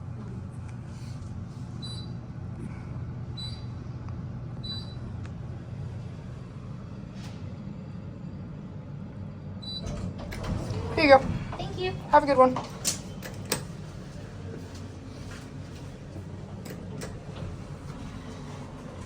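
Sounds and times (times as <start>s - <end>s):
elevator car rumbling: 0.0s - 19.0s.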